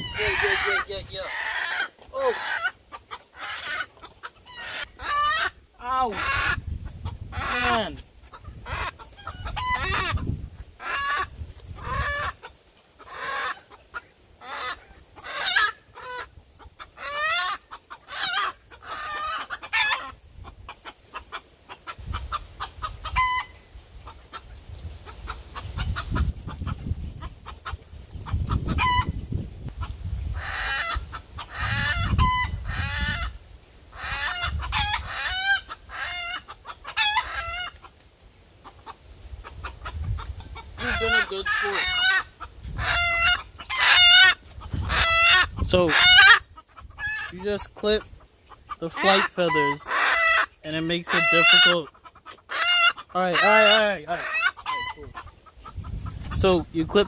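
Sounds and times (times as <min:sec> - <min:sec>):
chickens squawking and clucking: 0:00.0 - 0:57.0.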